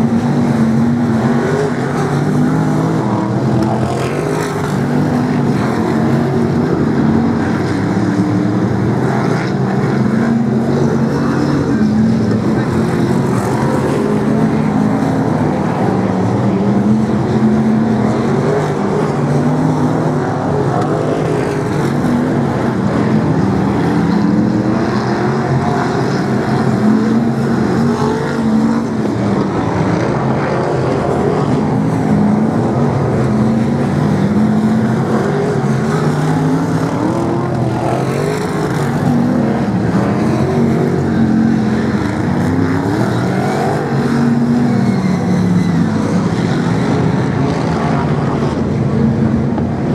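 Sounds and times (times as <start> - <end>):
race car engines revving past: 0.0 - 49.9.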